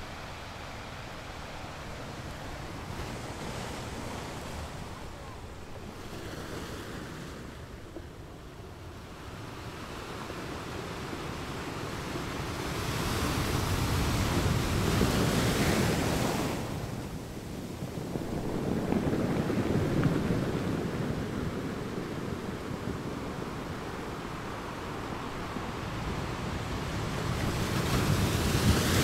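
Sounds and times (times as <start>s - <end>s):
ocean surf washing on shore: 0.0s - 29.0s.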